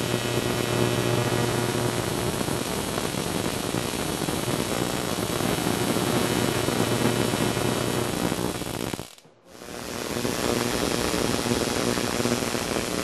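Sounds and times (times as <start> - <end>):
tesla coil buzzing crackle: 0.0 - 13.0.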